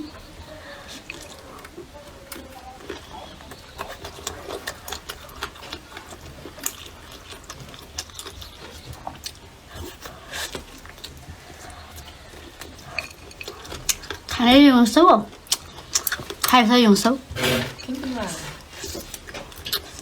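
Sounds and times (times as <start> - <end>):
person chewing food: 0.0 - 14.4, 15.3 - 16.5, 17.2 - 20.0.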